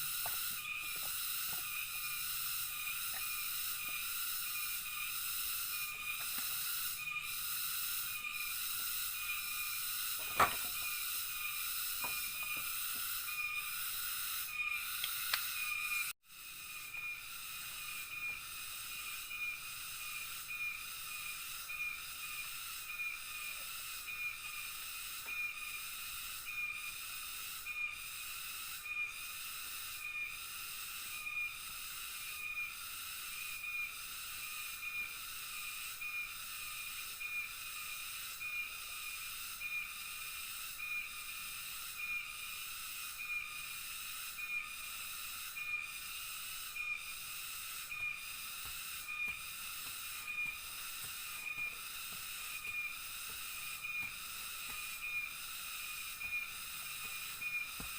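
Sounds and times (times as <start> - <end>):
insects buzzing high-pitched: 0.0 - 57.9
short insect chirp: 0.0 - 57.9.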